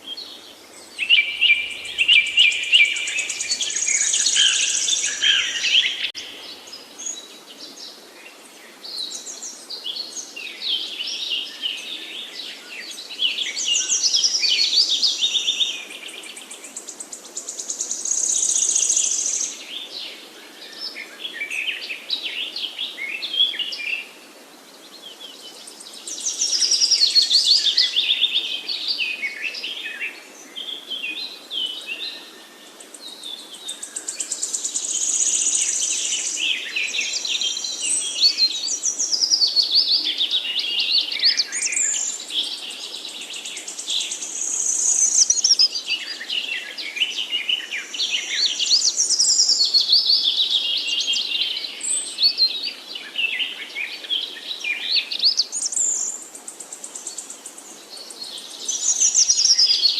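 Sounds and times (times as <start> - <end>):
songbirds trilling and twittering: 0.0 - 59.9.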